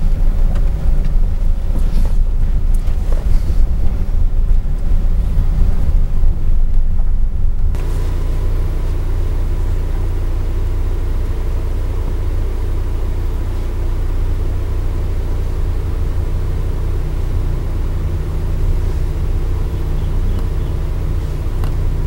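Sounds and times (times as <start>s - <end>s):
road noise: 0.0s - 22.0s
van engine rumble: 0.0s - 22.0s.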